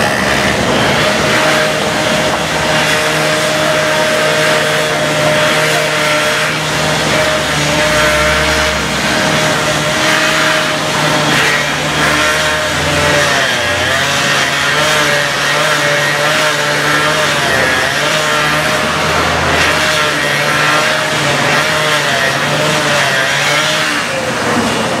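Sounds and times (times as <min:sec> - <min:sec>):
cut-off saw cutting asphalt: 0:00.0 - 0:25.0.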